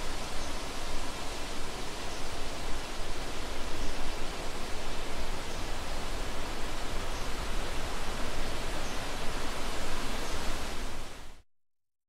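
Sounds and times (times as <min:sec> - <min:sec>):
stream water flowing: 0:00.0 - 0:11.3.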